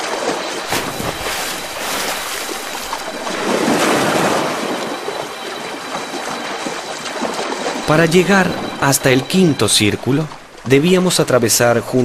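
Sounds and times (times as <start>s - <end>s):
surf waves rushing: 0.0s - 11.3s.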